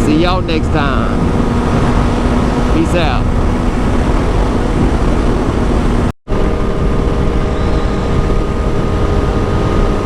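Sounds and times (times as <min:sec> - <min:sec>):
motorcycle engine drone: 0:00.0 - 0:10.0
wind rushing over microphone: 0:00.0 - 0:10.0.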